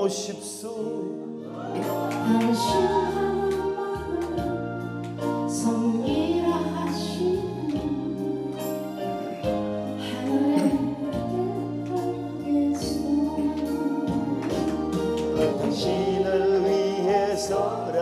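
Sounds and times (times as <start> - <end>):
woman singing: 1.6 - 17.6
live band accompaniment: 1.6 - 18.0.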